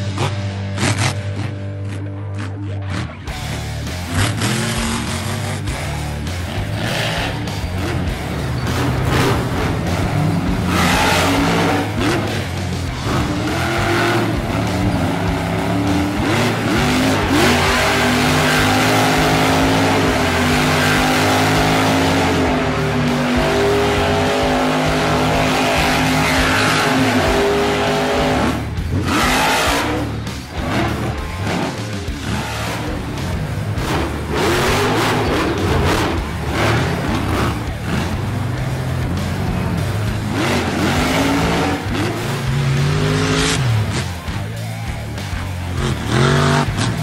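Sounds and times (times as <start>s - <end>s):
background music: 0.0s - 47.0s.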